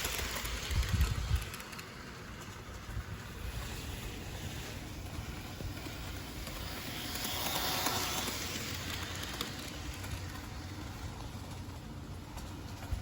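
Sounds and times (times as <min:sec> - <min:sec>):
model train whirring and rattling: 0:00.0 - 0:13.0.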